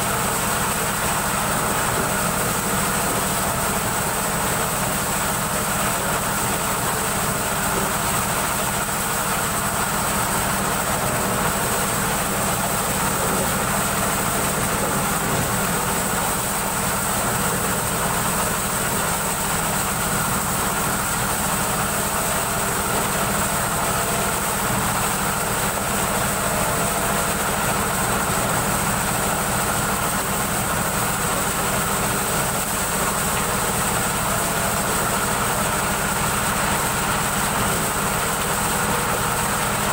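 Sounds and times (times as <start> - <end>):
motorized corn sheller running: 0.0 - 39.9.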